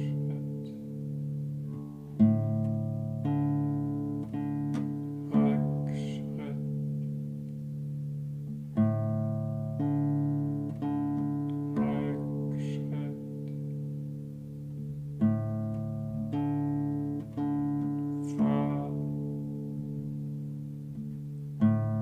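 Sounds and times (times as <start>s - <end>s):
classical guitar plucked notes: 0.0s - 22.0s.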